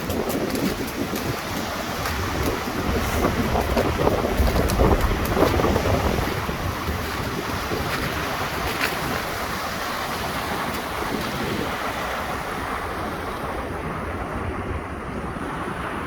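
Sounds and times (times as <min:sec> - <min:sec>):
strong storm wind: 0:00.0 - 0:16.0
wind buffeting microphone: 0:00.0 - 0:16.0.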